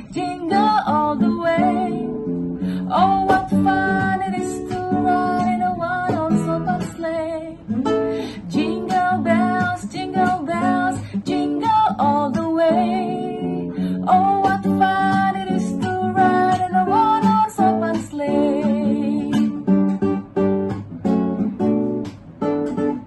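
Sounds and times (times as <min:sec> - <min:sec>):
woman singing: 0:00.0 - 0:19.9
strummed acoustic guitar: 0:00.0 - 0:23.0.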